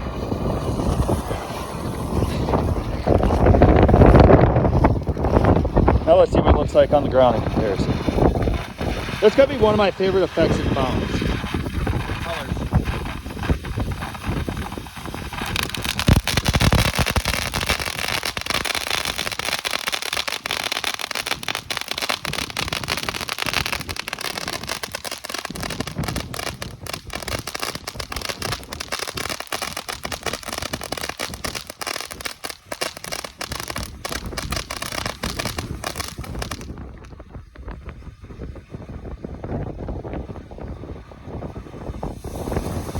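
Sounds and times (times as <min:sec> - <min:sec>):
firework fountain crackling hiss: 0:00.0 - 0:42.9.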